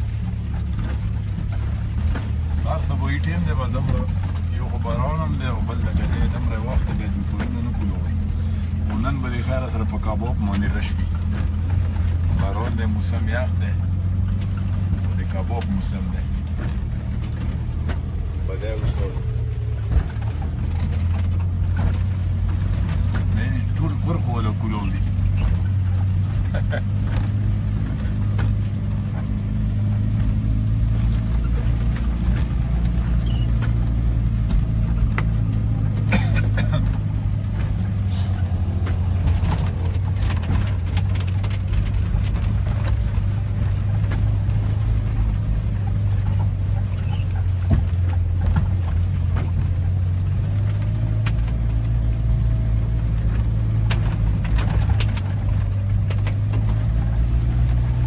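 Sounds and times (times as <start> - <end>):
car engine humming: 0.0 - 58.0.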